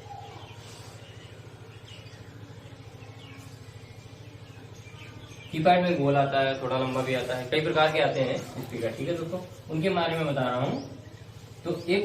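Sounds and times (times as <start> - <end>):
faint bird chirps: 0.0 - 12.0
low electrical hum: 0.0 - 12.0.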